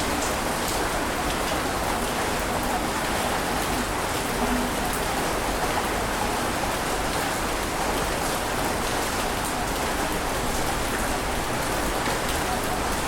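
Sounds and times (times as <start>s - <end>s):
rushing water with patter: 0.0s - 13.0s.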